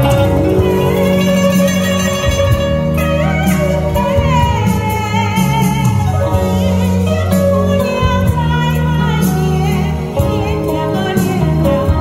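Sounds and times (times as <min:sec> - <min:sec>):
recorded accompaniment with bass: 0:00.0 - 0:12.0
woman singing into microphone: 0:00.0 - 0:12.0.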